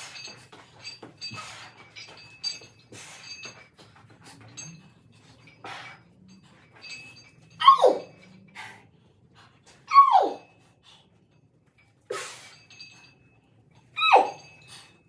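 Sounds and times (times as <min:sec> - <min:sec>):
light metallic clinks: 0:00.0 - 0:15.0.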